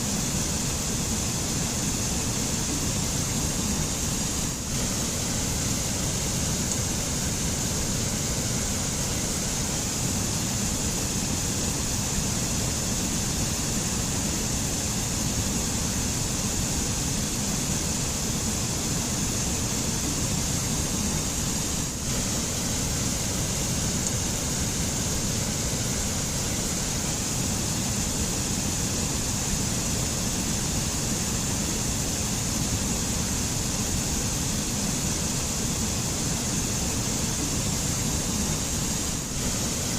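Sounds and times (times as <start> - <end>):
stream rushing over rocks: 1.3 - 39.9.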